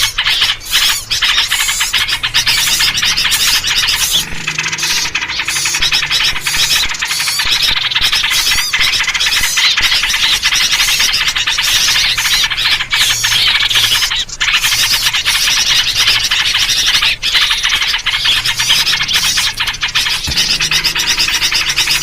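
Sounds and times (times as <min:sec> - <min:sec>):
songbirds chattering and squealing: 0:00.0 - 0:22.0.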